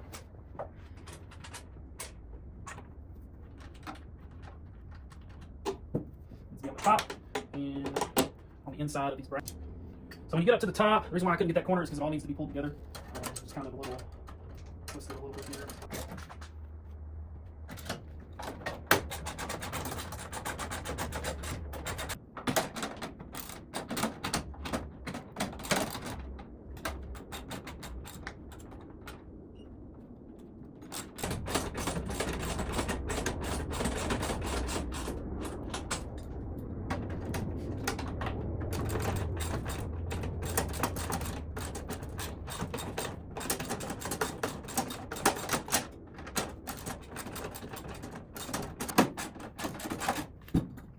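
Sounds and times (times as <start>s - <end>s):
metal parts clicking and clattering: 0.0s - 8.5s, 12.2s - 16.6s, 17.7s - 29.3s, 30.8s - 50.9s
steady low hum: 0.0s - 50.9s.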